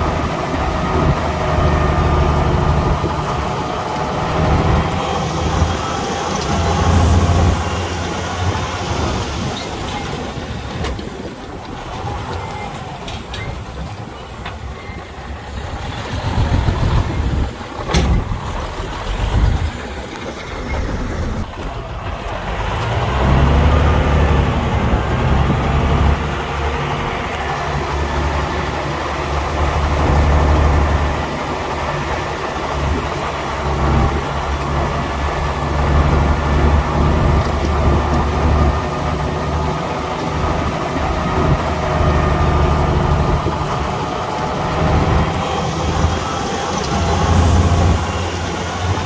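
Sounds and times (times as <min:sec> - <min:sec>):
heavy diesel machinery engine rumble: 0:00.0 - 0:49.0.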